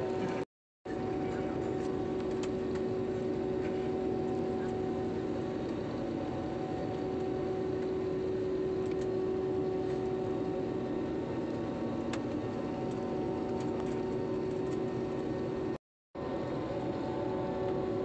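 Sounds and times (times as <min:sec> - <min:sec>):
jet engine drone in cabin: 0:00.0 - 0:18.0.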